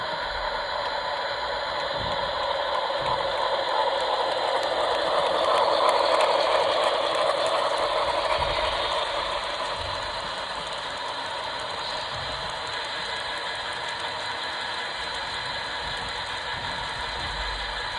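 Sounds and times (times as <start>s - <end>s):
model train motor and gears: 0.0s - 17.9s.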